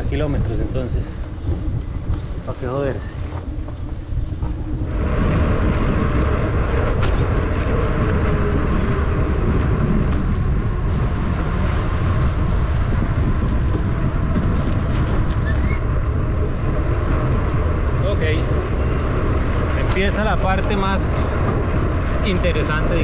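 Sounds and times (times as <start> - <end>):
bike tyre noise: 0.0 - 23.0
rushing wind: 0.0 - 23.0.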